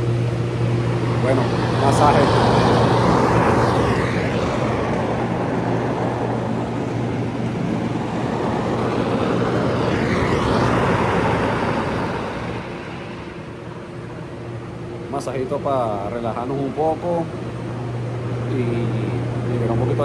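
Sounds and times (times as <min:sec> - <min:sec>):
loud rushing noise: 0:00.0 - 0:20.0
massage machine motor hum: 0:00.0 - 0:20.0.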